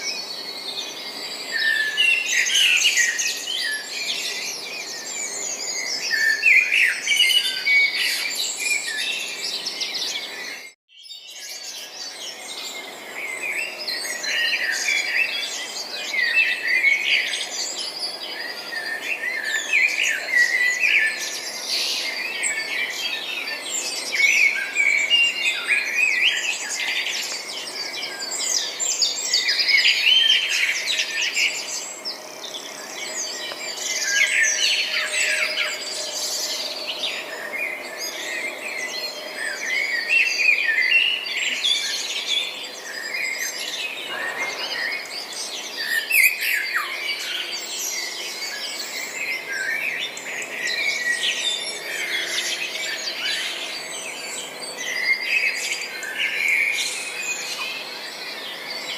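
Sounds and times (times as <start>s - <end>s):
small songbirds chirping: 0.0s - 58.9s.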